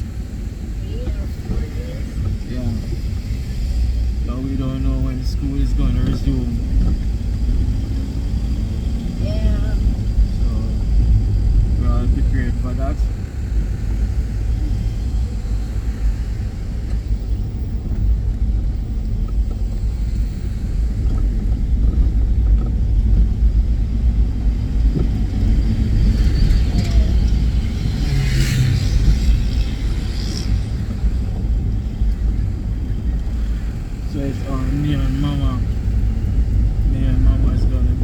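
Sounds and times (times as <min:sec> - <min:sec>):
car road and engine rumble: 0:00.0 - 0:38.0.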